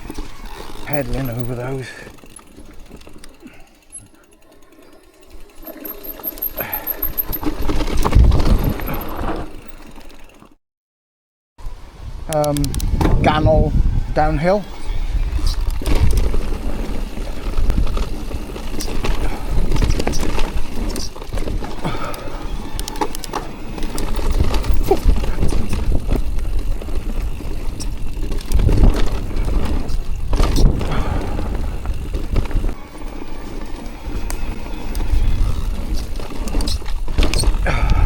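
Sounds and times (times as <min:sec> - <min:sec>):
bike knocks and rattles: 0:00.0 - 0:10.2, 0:15.4 - 0:38.0
rumble of wind and tyres: 0:00.0 - 0:10.6, 0:11.6 - 0:38.0.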